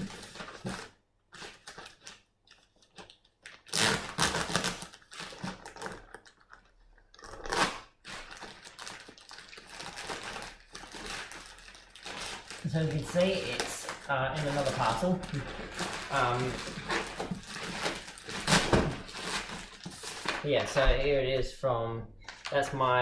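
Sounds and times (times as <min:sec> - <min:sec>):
cardboard packaging rustling: 0:00.0 - 0:21.2.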